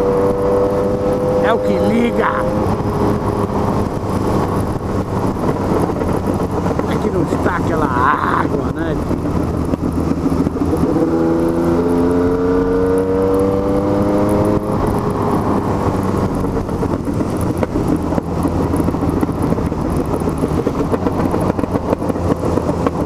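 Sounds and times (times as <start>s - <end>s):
motorcycle engine accelerating: 0.0s - 23.0s
wind and tyre noise on wet road: 0.0s - 23.0s.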